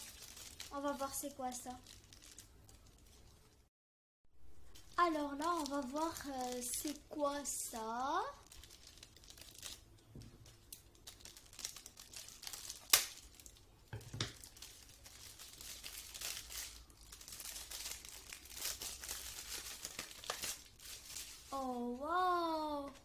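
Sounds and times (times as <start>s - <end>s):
metallic foil crinkling and tearing: 0.0s - 3.6s, 4.5s - 23.0s.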